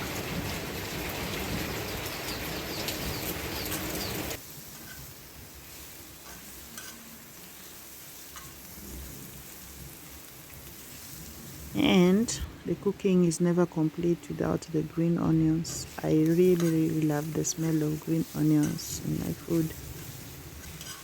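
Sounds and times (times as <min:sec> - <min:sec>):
mushrooms and onions sizzling in oil: 0:00.0 - 0:21.0.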